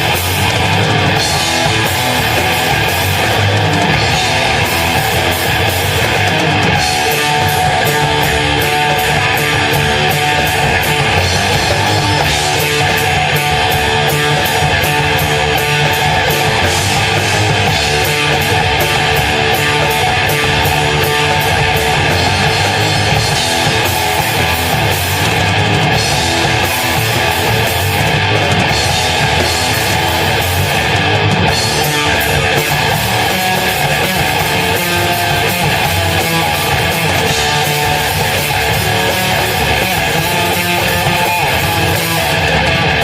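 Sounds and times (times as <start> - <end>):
drum and cymbal beat: 0.0 - 43.0
heavy rock band playing: 0.0 - 43.0.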